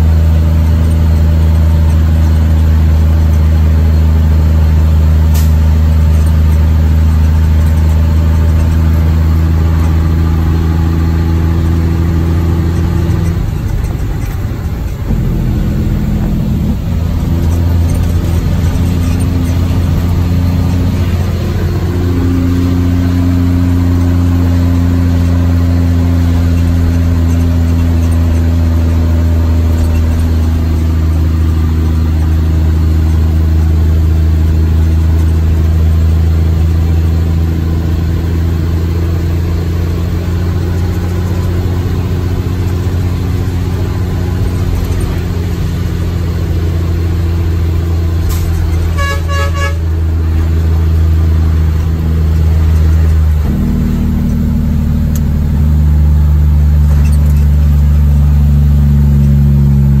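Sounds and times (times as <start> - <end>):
truck diesel engine running: 0.0 - 60.0.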